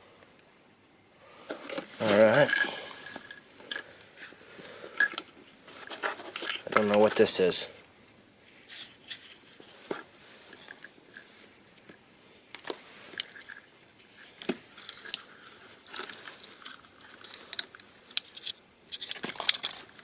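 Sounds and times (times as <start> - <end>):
wires rustling: 0.3 - 20.0.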